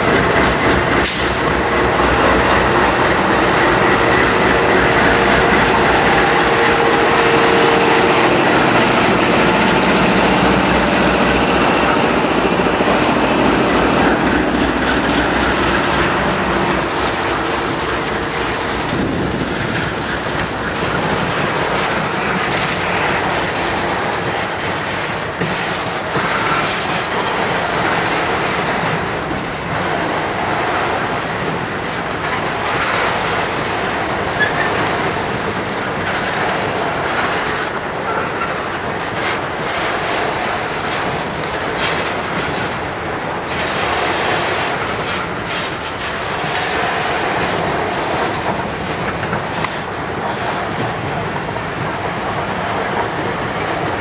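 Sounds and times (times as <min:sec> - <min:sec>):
train wheels rumbling on rails: 0:00.0 - 0:54.0
wheels clacking over rail joints: 0:00.0 - 0:54.0.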